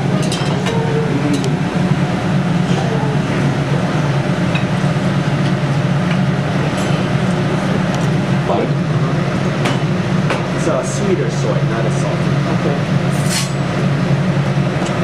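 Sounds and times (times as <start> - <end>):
restaurant room noise drone: 0.0 - 15.0.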